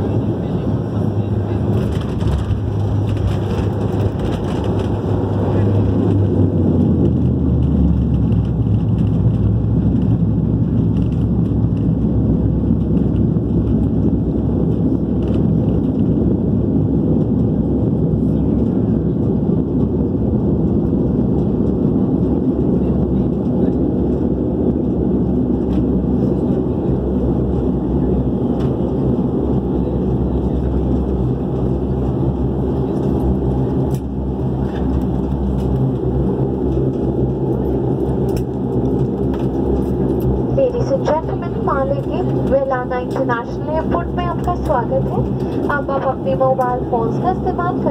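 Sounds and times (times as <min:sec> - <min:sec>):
airliner cabin rumble on runway: 0:00.0 - 0:47.9
low engine tones: 0:00.0 - 0:47.9.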